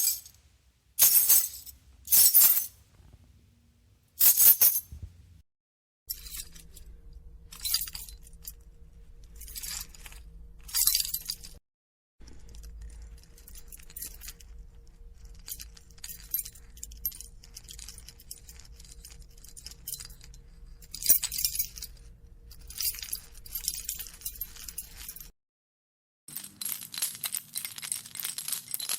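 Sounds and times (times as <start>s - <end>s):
metal keys jangling: 0.0s - 0.3s, 1.0s - 2.7s, 4.2s - 4.9s, 6.1s - 8.6s, 9.2s - 11.6s, 12.3s - 25.3s, 26.3s - 28.9s.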